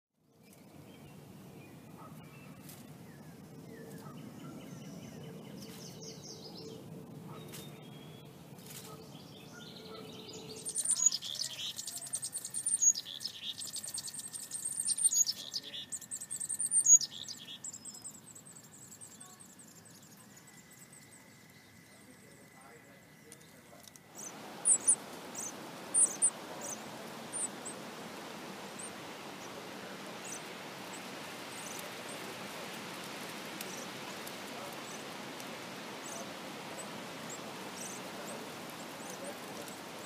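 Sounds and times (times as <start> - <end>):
songbird trilling: 2.0 - 40.0.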